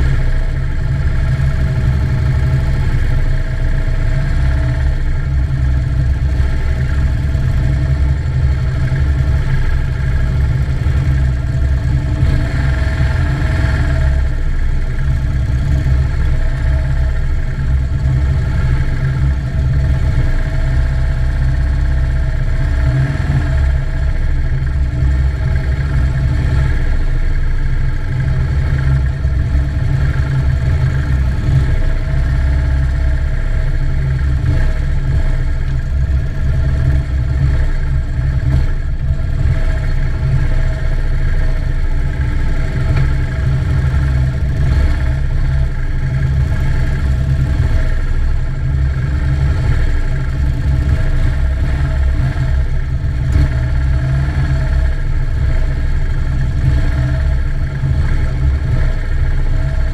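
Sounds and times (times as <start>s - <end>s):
motorcycle engines running: 0.0s - 59.9s.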